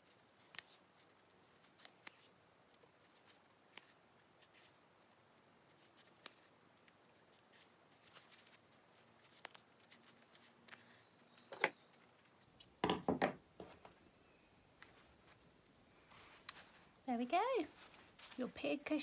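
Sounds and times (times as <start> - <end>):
faint hand stitching through fabric: 0.0 - 12.6, 14.8 - 19.0.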